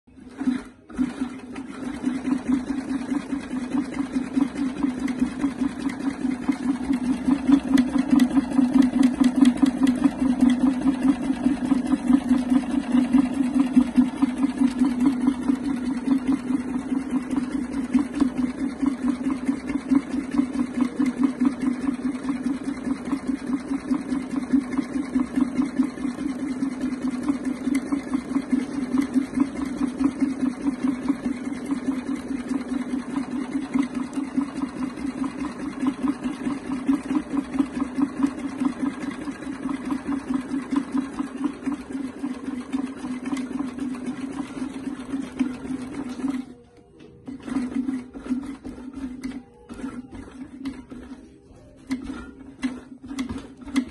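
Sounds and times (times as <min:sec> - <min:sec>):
overlock sewing machine running: 0:00.0 - 0:53.9.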